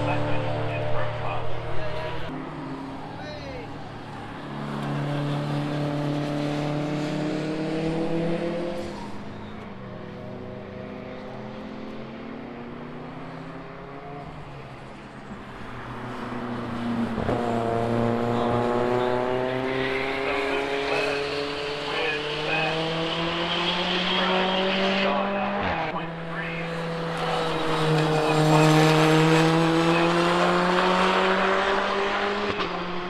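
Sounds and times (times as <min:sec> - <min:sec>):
race car engines accelerating: 0:00.0 - 0:33.0.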